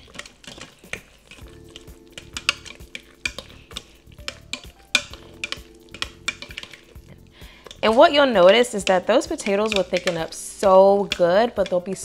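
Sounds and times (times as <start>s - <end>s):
metal clinking against pot: 0.0s - 12.0s
potato masher mashing potatoes: 0.0s - 12.0s.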